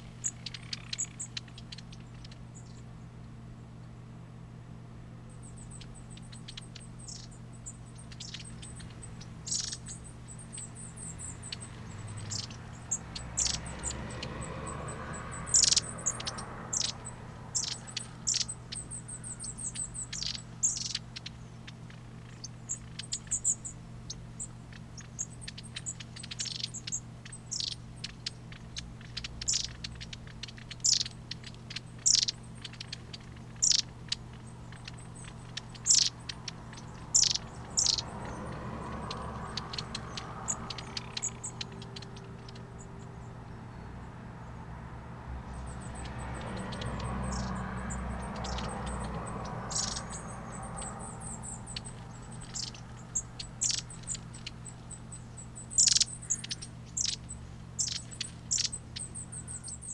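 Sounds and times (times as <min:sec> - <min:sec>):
birds calling high-pitched: 0:00.0 - 0:03.8, 0:05.1 - 0:59.9
steady low hum: 0:00.0 - 0:59.9.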